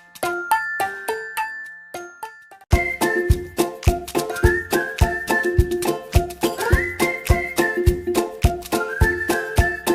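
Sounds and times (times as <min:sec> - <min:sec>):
upbeat music with high melody: 0:00.0 - 0:09.9.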